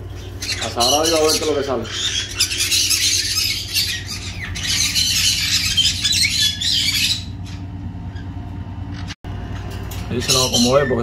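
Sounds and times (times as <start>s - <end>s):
parrots squawking harshly: 0.1s - 8.2s, 10.2s - 11.0s.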